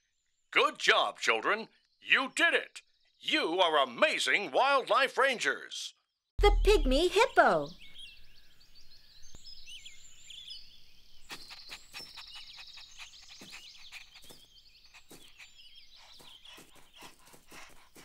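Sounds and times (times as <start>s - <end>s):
small birds chirping: 0.1s - 4.4s, 5.9s - 18.0s.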